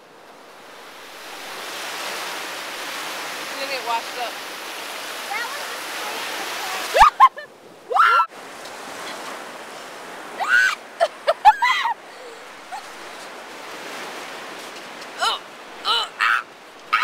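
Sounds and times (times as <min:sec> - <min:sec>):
surf washing on beach: 0:00.0 - 0:17.0.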